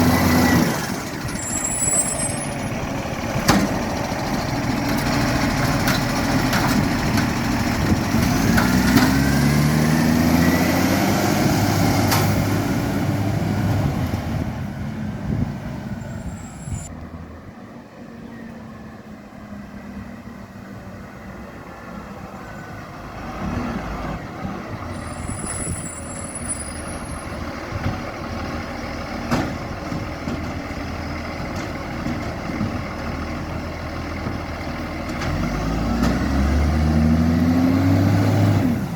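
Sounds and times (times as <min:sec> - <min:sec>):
diesel engine revving: 0:00.0 - 0:17.3, 0:18.8 - 0:38.9.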